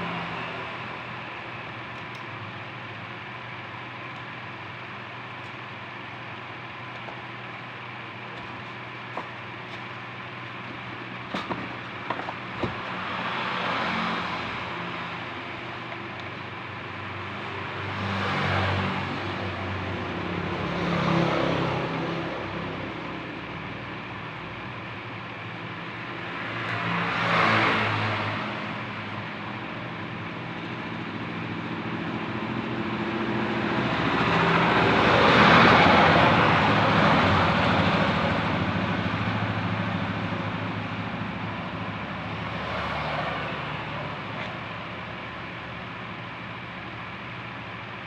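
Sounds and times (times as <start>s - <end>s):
low engine hum: 0.0s - 48.0s
vehicles passing by: 0.0s - 48.0s.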